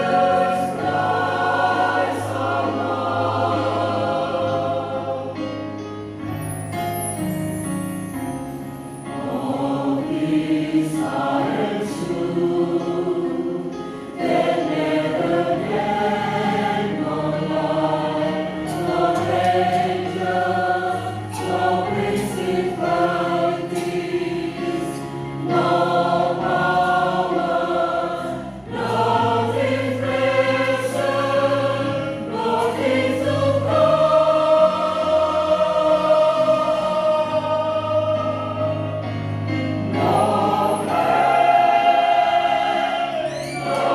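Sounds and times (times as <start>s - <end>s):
choir singing gospel: 0.0s - 7.2s, 8.9s - 43.9s.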